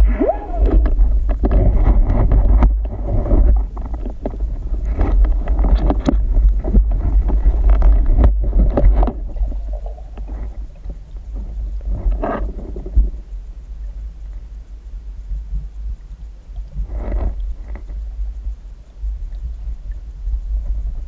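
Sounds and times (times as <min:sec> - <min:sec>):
muffled underwater rumble: 0:00.0 - 0:21.0.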